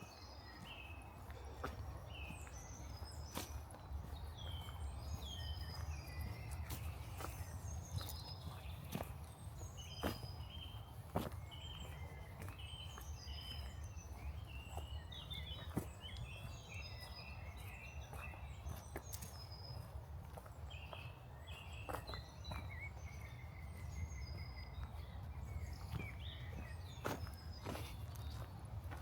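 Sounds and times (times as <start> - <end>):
footsteps on a path: 0.0 - 29.0
small birds chirping: 0.0 - 29.0.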